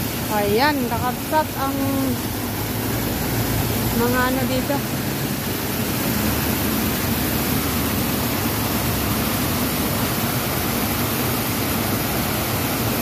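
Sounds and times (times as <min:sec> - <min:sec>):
fountain water splashing into basins: 0:00.0 - 0:13.0.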